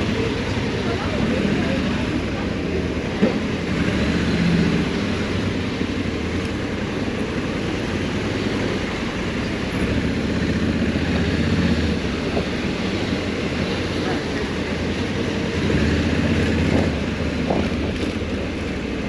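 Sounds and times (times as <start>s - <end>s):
road noise: 0.0s - 19.0s
wind: 0.0s - 19.0s.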